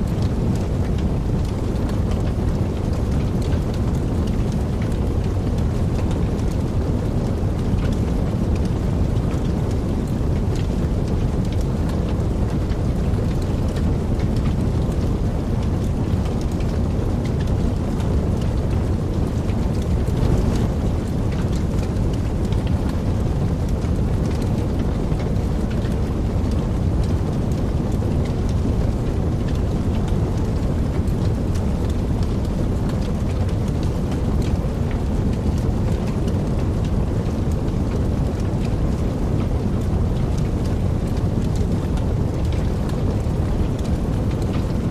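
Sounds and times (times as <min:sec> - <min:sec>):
fire flames rushing: 0:00.0 - 0:44.9
wood fire crackling and popping: 0:00.0 - 0:44.9.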